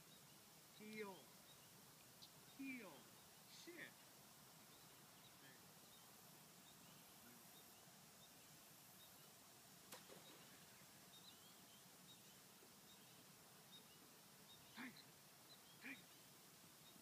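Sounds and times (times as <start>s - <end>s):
bird chirps: 0.0s - 4.0s, 4.6s - 17.0s.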